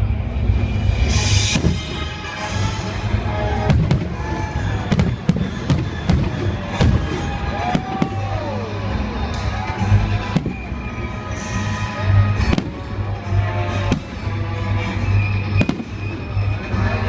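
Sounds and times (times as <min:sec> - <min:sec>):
music playing: 0:00.0 - 0:17.0
fireworks bangs: 0:00.8 - 0:17.0.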